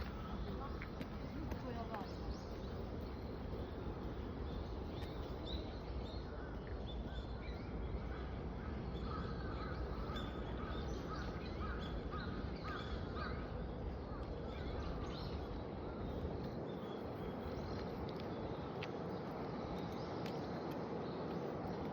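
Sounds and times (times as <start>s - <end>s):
outdoor background noise: 0.0s - 21.9s.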